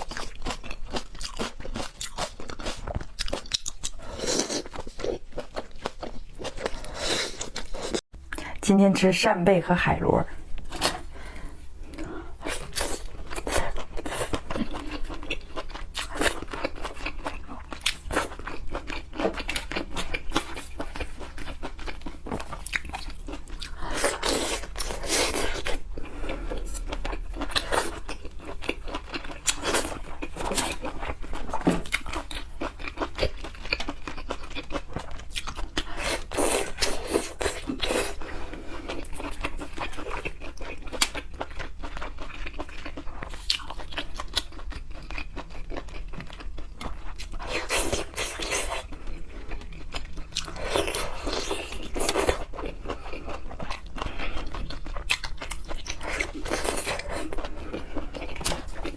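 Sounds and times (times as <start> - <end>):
wet chewing and crunching: 0.0 - 8.5, 10.5 - 58.9.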